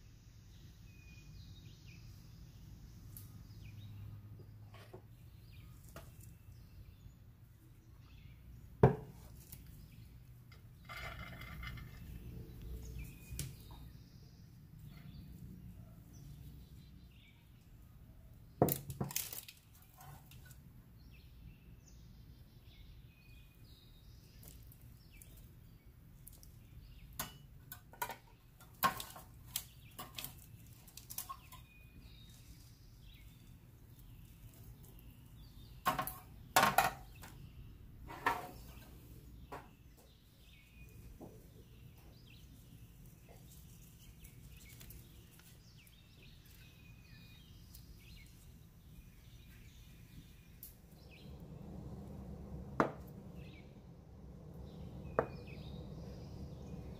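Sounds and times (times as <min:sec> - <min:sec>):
birds chirping faintly: 0:00.0 - 0:56.9.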